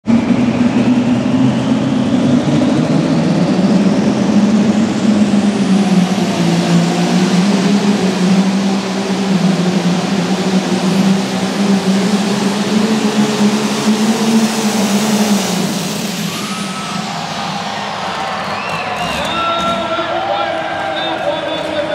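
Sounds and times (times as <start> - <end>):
diesel engine running at high revs: 0.0 - 21.9
high turbo whine: 0.0 - 21.9.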